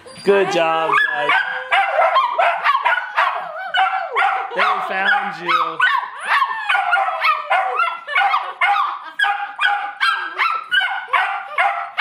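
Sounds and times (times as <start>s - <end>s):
dog barking excitedly: 0.8s - 12.0s.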